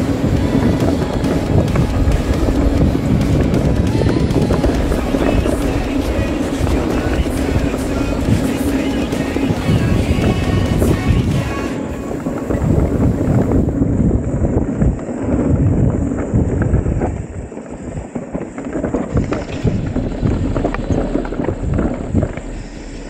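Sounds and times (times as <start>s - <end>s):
bike knocking and rattling: 0.0s - 23.0s
tyres rumbling on dirt: 0.0s - 23.0s
wind buffeting microphone: 0.0s - 23.0s.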